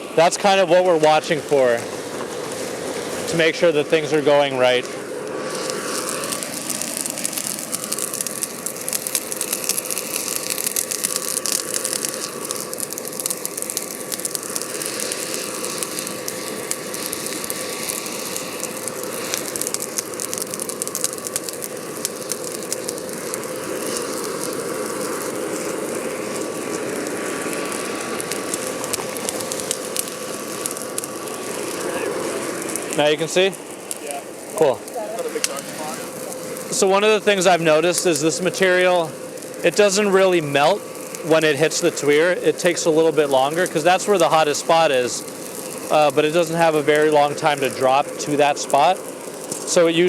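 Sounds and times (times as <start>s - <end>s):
air blast whine: 0.0s - 50.0s
charcoal fire crackling: 0.0s - 50.0s.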